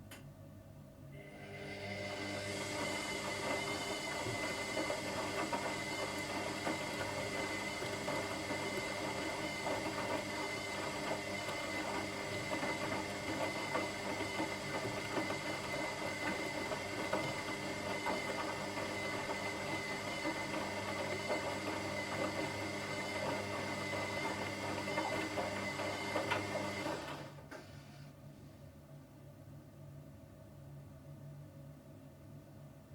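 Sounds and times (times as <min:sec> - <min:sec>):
washing machine running: 0:01.2 - 0:27.9.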